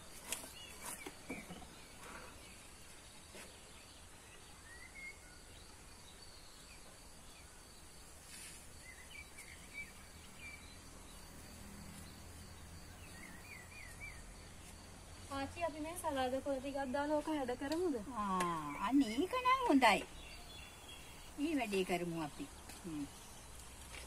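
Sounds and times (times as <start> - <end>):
faint insect whine: 0.0 - 24.0
small birds chirping: 0.0 - 24.0.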